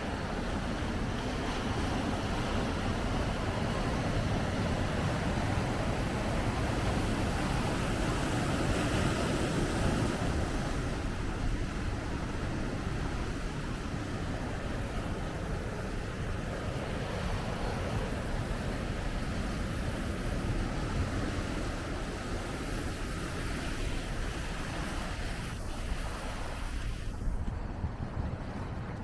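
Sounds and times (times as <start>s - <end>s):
ocean waves breaking: 0.0s - 29.0s
wind on microphone: 0.0s - 29.0s.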